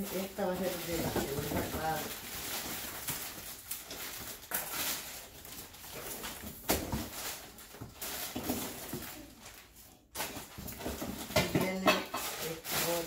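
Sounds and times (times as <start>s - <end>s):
cardboard rustling: 0.0s - 13.0s
plastic packaging crinkling: 0.0s - 13.0s.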